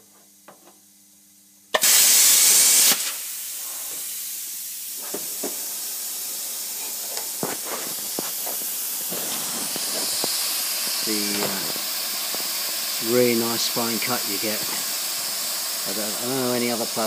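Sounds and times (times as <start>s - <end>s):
plasma cutter arc hissing: 1.7s - 17.0s
air rushing through torch: 1.8s - 17.0s.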